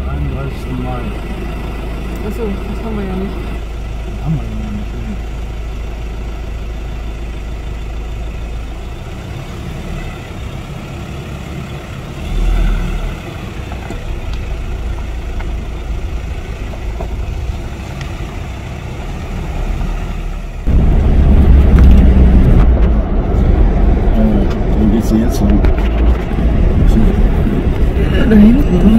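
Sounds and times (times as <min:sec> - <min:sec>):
engine idling: 0:00.0 - 0:28.9
pickup driving on gravel: 0:05.1 - 0:28.9.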